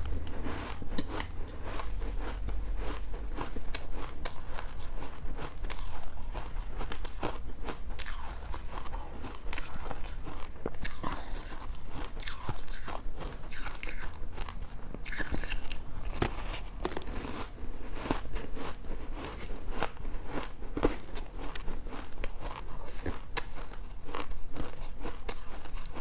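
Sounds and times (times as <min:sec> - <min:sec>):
chewing: 0:00.0 - 0:26.0.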